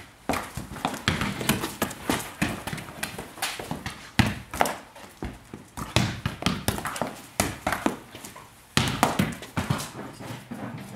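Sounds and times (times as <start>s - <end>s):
ball knocking and bouncing: 0.3s - 8.1s, 8.8s - 10.0s.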